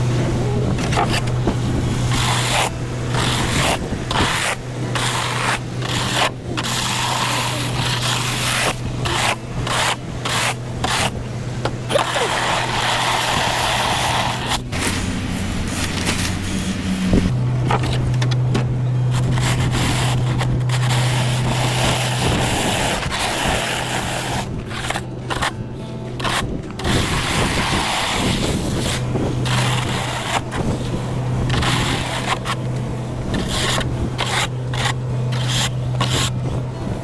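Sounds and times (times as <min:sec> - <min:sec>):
plow blade scraping pavement: 0:00.0 - 0:37.0
steady low hum: 0:00.0 - 0:37.0.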